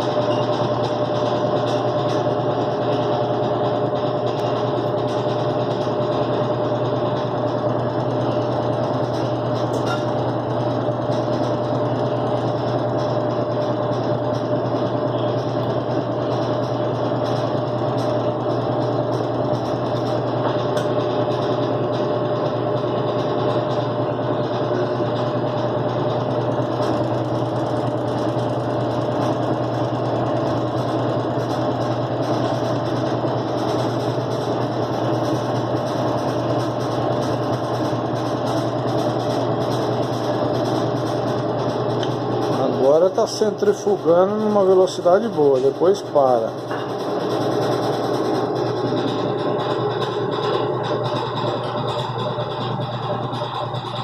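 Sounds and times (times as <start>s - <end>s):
washing machine spin drone: 0.0s - 54.0s.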